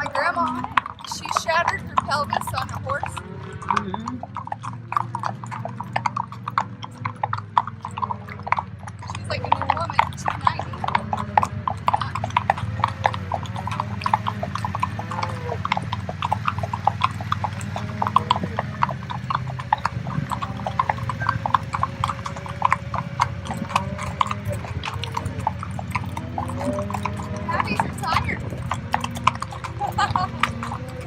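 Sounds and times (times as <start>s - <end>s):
horse hooves clip-clopping: 0.0s - 31.0s.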